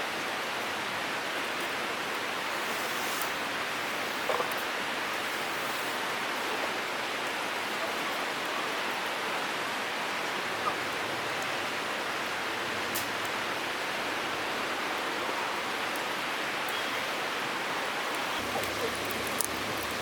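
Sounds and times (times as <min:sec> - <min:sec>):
running water hiss: 0:00.0 - 0:20.0.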